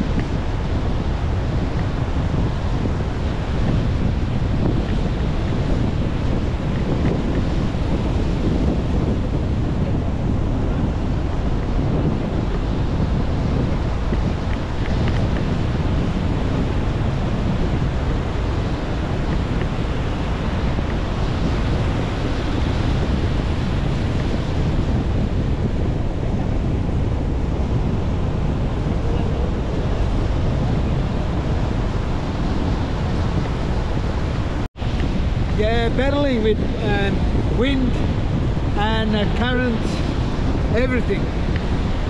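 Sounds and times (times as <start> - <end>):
ocean surf breaking: 0.0 - 42.0
wind buffeting microphone: 0.0 - 42.0.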